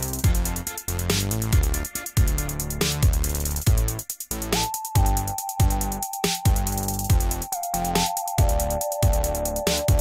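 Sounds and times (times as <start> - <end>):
electronic music with drum machine: 0.0 - 10.0.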